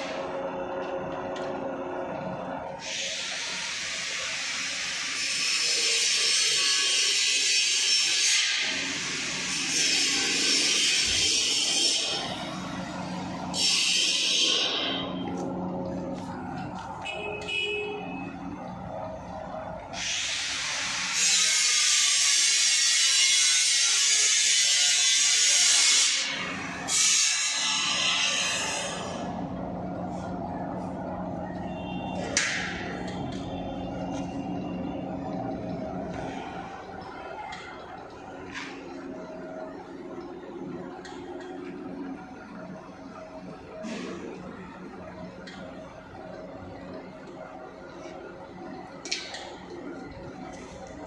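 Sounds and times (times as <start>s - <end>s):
motor and roller hum: 0.0s - 51.0s.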